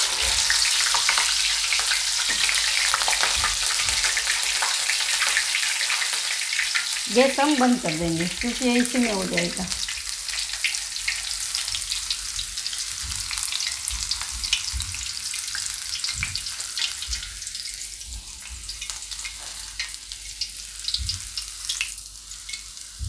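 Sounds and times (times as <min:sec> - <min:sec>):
chillies sizzling in hot oil: 0:00.0 - 0:23.0.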